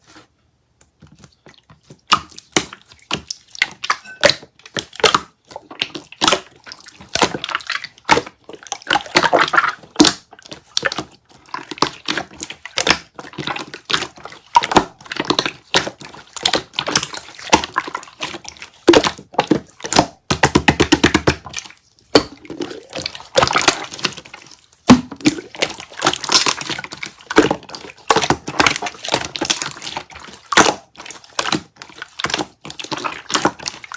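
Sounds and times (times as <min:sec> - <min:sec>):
slime squishing with wet clicks: 0:00.8 - 0:33.9.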